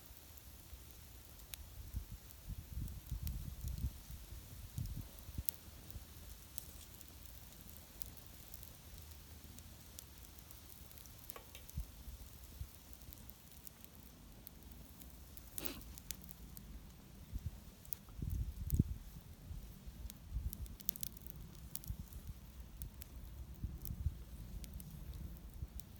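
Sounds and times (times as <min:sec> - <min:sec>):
wood fire hissing and crackling: 0:00.0 - 0:25.9.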